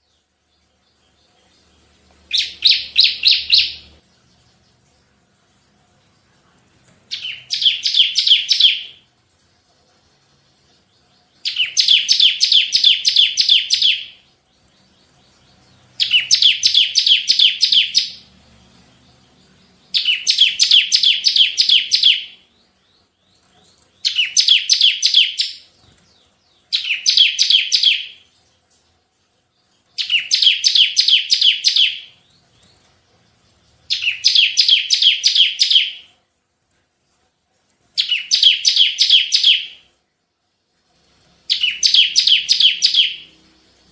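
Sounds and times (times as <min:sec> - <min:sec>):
bird song bursts of high notes: 0:00.0 - 0:36.3, 0:37.9 - 0:43.9.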